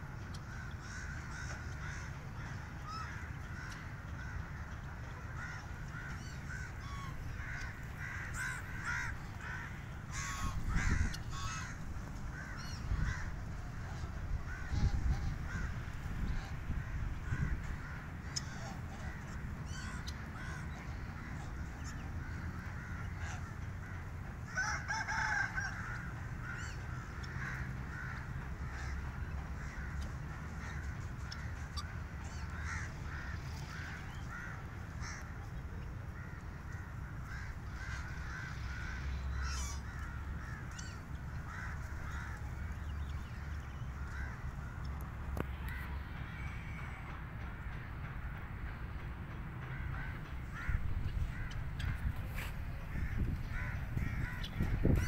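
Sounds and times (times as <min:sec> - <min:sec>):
flock of birds calling: 0:00.0 - 0:48.3, 0:49.6 - 0:55.0.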